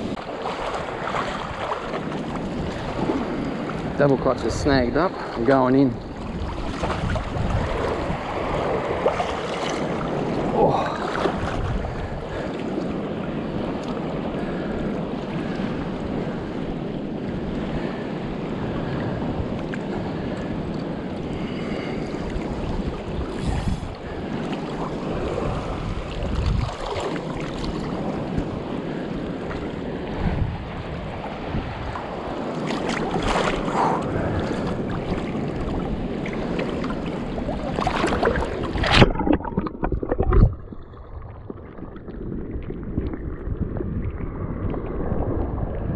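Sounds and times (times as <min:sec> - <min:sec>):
shallow water sloshing and splashing: 0:00.0 - 0:45.9
wind on microphone: 0:00.0 - 0:45.9.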